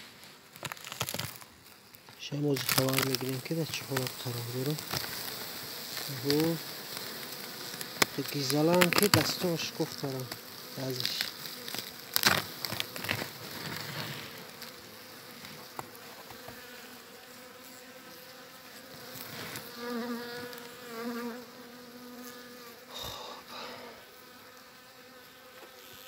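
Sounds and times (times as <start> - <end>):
honeybees buzzing: 0.6 - 26.0.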